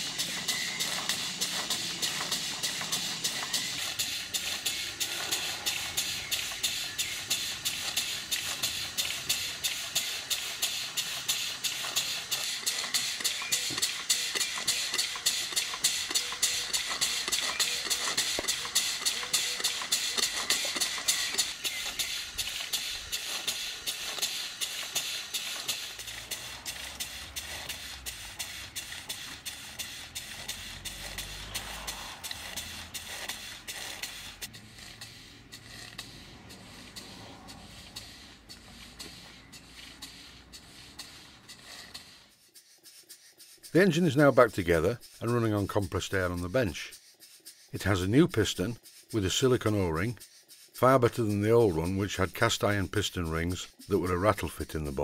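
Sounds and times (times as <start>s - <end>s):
steam engine exhaust beats: 0.0s - 55.0s
steam hissing: 0.0s - 55.0s.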